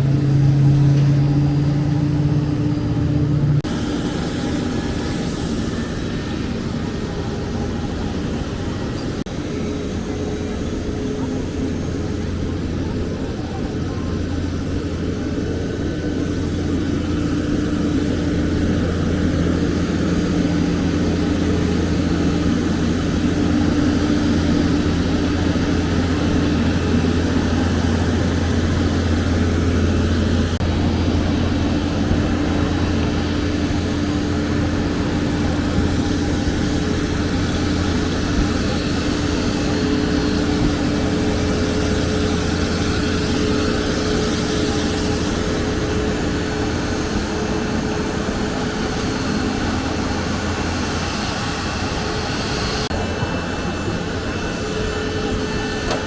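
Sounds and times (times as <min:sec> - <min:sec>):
aircraft engine hum with whine: 0:00.0 - 0:56.0.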